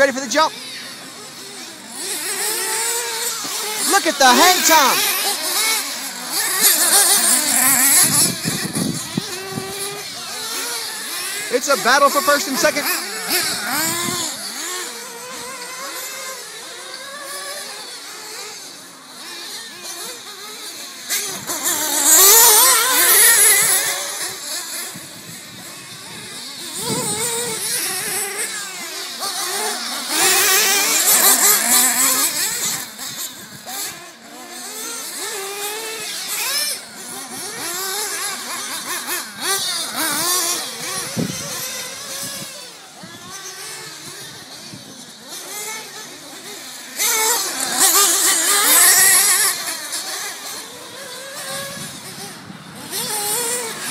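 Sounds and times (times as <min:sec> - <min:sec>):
remote-control car engines whining: 0:00.0 - 0:53.9.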